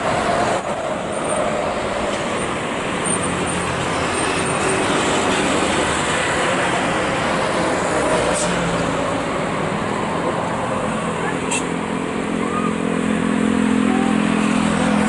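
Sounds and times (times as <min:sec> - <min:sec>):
rushing traffic noise: 0:00.0 - 0:15.0.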